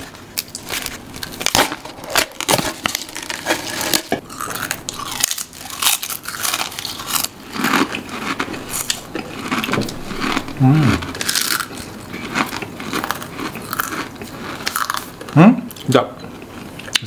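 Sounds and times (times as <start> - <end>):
crisps crunching: 0.0 - 15.3.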